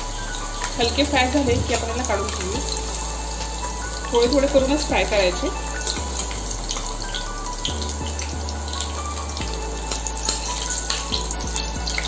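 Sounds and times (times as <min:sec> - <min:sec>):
gourd slices sizzling in oil: 0:00.0 - 0:12.0
small oil crackles: 0:00.0 - 0:12.0.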